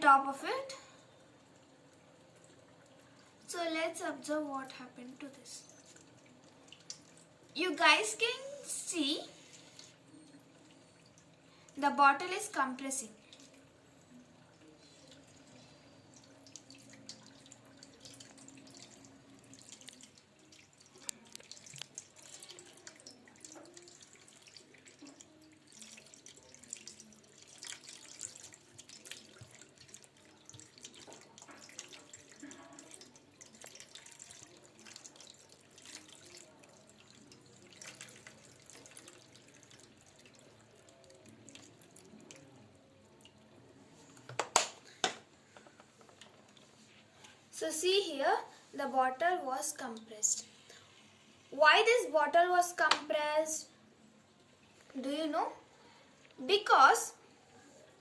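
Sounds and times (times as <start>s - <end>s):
faint dripping water: 0.0s - 58.0s.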